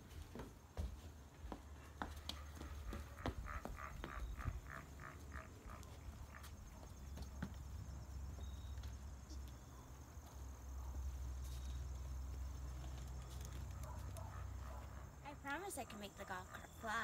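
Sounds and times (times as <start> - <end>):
quick footsteps on pavement: 0.0 - 15.1.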